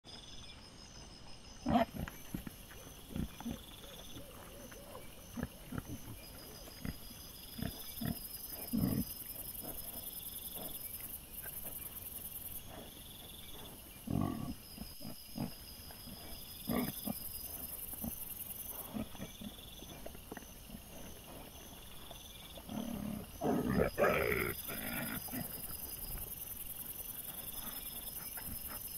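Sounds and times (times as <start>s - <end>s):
wild boar grunting and snuffling: 0.2s - 28.9s.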